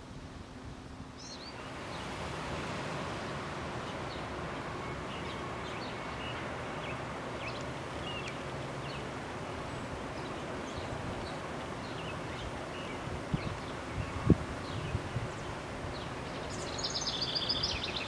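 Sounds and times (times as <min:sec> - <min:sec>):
steady low background noise: 0:00.0 - 0:18.0
birds chirping: 0:01.1 - 0:18.0.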